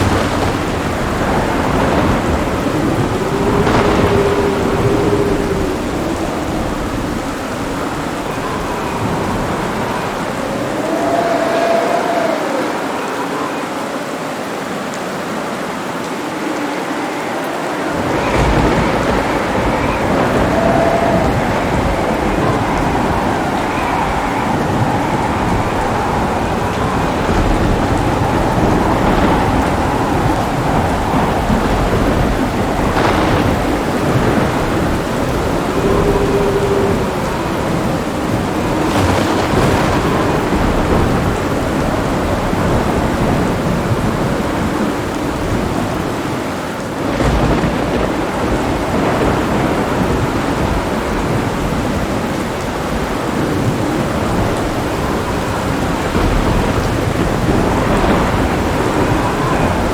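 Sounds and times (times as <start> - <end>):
sharp thunder claps: 0.0 - 12.3, 17.9 - 59.9
thunder rumbling: 0.0 - 14.4, 15.0 - 59.9
heavy rain pouring: 0.0 - 59.9.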